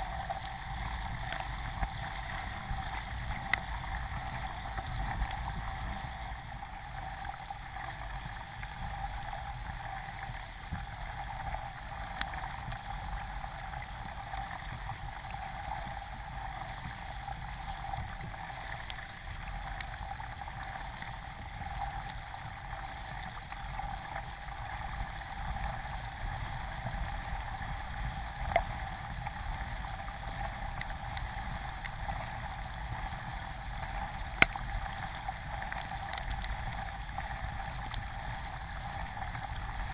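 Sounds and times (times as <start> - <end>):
water rushing along kayak hull: 0.0 - 39.9.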